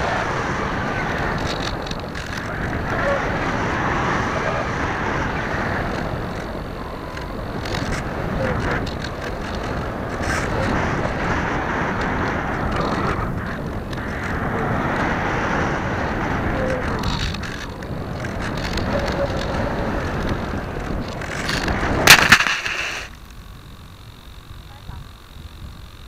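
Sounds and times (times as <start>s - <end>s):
electric motor and propeller: 0.0s - 26.0s
plane hitting the ground: 0.0s - 26.0s
rushing wind: 0.0s - 26.0s.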